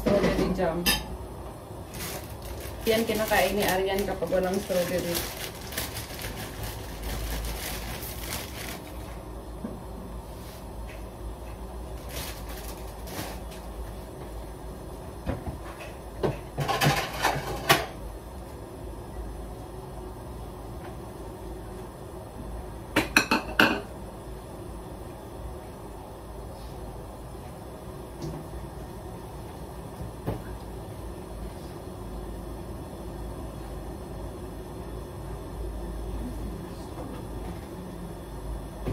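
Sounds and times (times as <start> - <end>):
low rumbling background noise: 0.0 - 38.9
steady low hum: 0.0 - 38.9.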